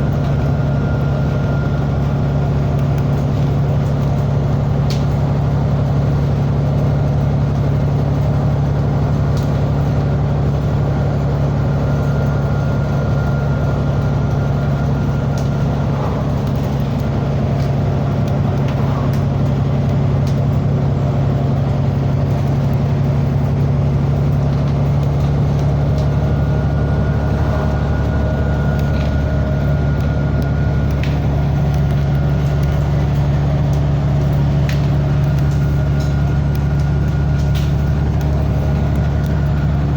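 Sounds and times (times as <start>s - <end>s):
vehicle engine low drone: 0.0s - 39.9s.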